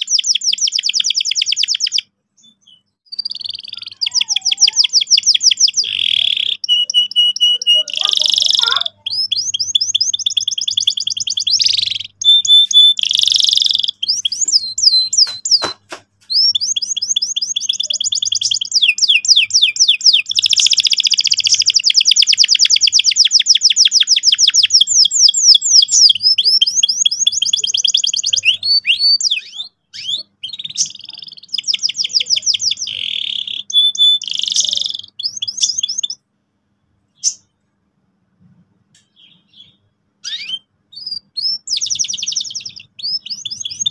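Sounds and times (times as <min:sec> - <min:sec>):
canary singing trills: 0:00.0 - 0:36.3, 0:37.1 - 0:37.6, 0:39.0 - 0:43.9.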